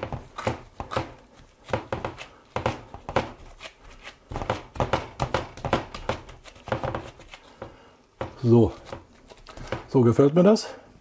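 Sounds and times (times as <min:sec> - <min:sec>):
hands patting meat in a pan: 0:00.0 - 0:10.0.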